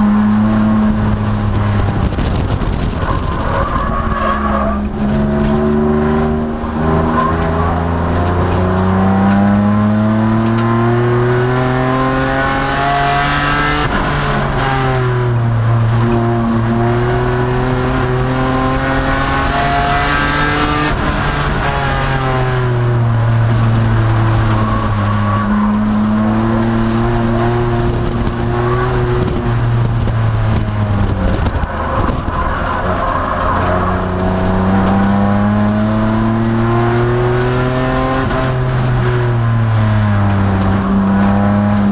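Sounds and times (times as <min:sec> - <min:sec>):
race car engine through gears: 0:00.0 - 0:41.9.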